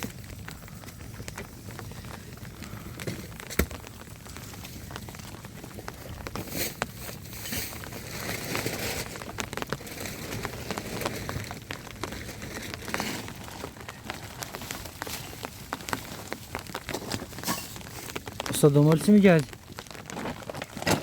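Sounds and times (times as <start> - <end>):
rain falling steadily: 0.0 - 21.0
sharp crackling taps: 0.0 - 21.0.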